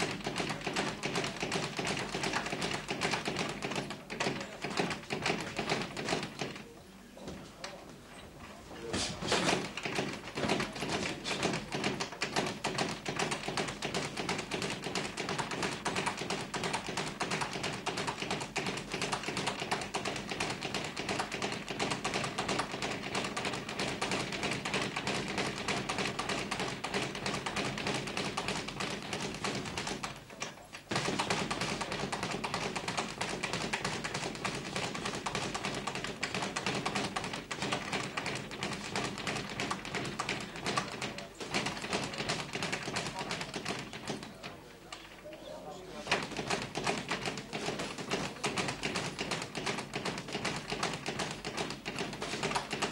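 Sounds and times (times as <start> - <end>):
boxing gloves striking: 0.0 - 6.6, 9.2 - 30.2, 30.9 - 44.3, 46.1 - 52.9.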